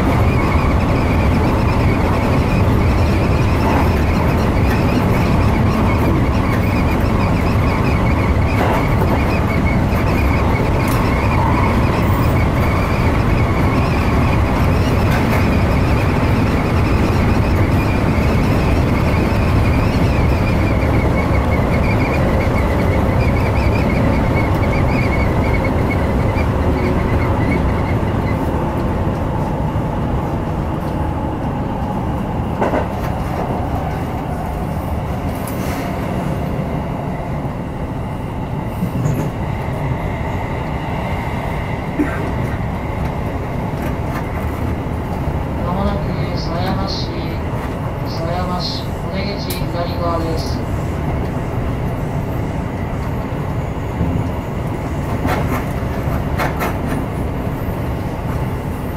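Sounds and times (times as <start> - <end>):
train running rumble: 0.0 - 58.9
wavering train whine: 0.0 - 58.9.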